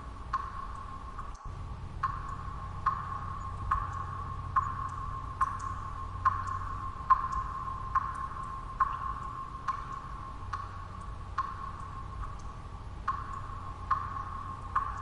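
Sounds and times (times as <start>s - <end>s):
low background noise: 0.0s - 15.0s
water drops plinking: 0.3s - 15.0s.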